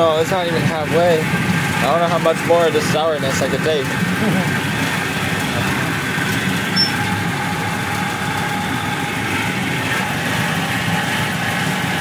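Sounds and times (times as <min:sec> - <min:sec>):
miniature train engine drone: 0:00.0 - 0:12.0.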